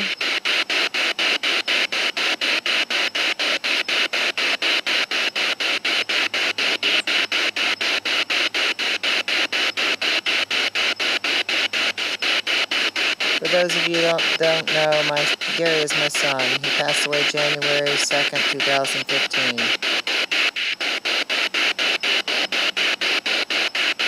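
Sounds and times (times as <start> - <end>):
pulsing radio static: 0.0 - 24.0.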